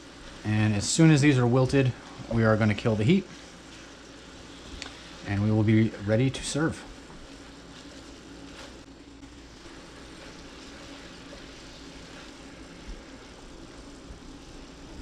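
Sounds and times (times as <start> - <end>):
food sizzling in skillet: 0.0 - 15.0.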